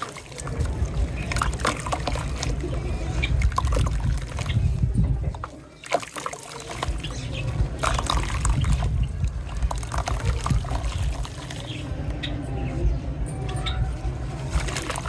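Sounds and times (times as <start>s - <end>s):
grains trickling and pouring: 0.0s - 12.0s, 14.3s - 15.0s
sand-cement clumps crunching: 0.0s - 12.2s, 14.0s - 15.0s.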